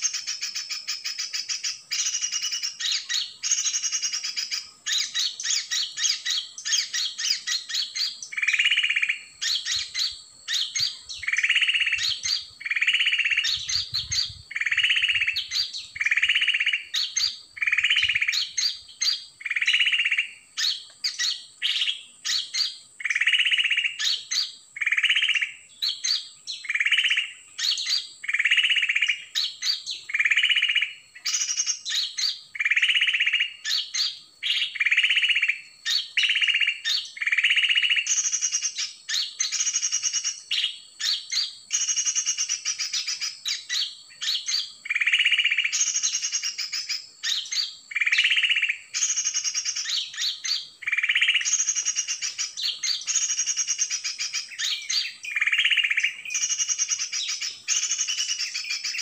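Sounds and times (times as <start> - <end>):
bird calls: 0.0 - 59.0
sharp bird chirps: 0.0 - 59.0.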